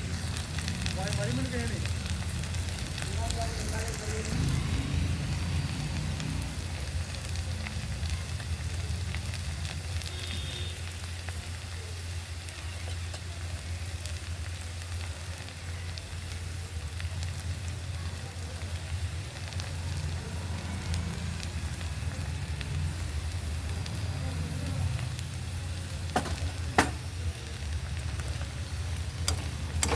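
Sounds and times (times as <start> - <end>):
small crackles: 0.0 - 4.6, 6.0 - 29.9
food sizzling in a pan: 0.0 - 29.9.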